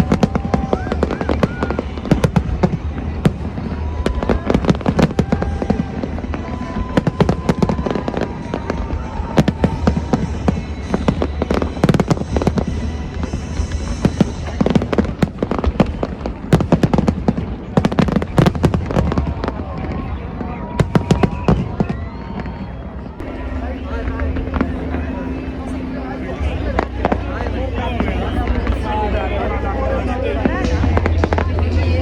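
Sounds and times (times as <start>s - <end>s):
echoing blasts rumble: 0.0s - 32.0s
fireworks bangs and crackles: 0.0s - 32.0s.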